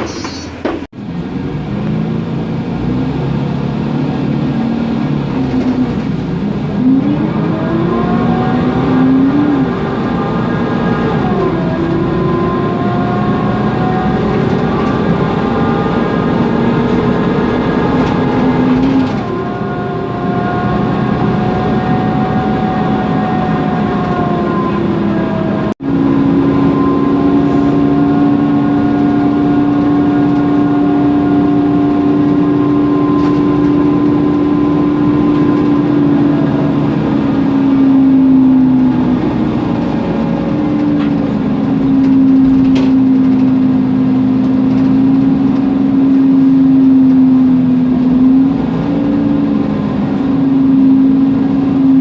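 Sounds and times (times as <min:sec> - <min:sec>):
bus engine: 0:00.0 - 0:52.0
road noise: 0:00.0 - 0:52.0.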